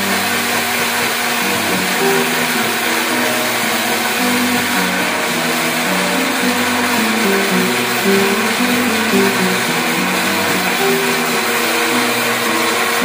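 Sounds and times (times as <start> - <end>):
electric blender running: 0.0 - 13.0
background music: 1.5 - 13.0.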